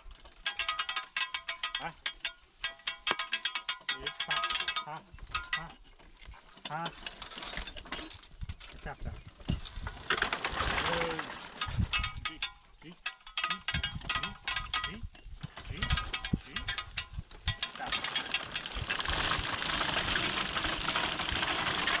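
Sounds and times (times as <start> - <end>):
mowing machine metallic clicking: 0.0 - 22.0.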